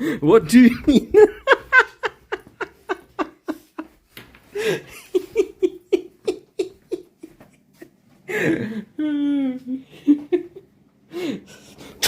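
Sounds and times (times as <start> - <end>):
person laughing: 0.6 - 10.7.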